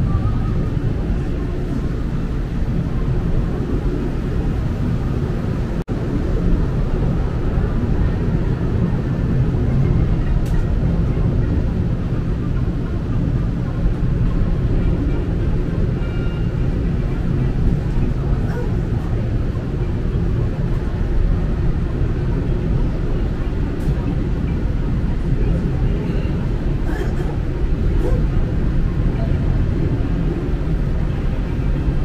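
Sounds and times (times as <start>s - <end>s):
tram car rumbling on track: 0.0s - 32.0s.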